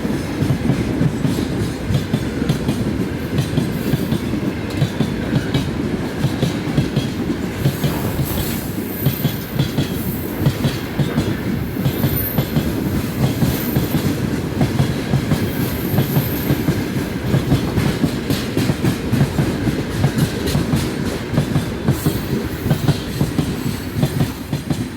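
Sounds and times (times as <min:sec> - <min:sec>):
train wheels clattering over joints: 0:00.4 - 0:24.9.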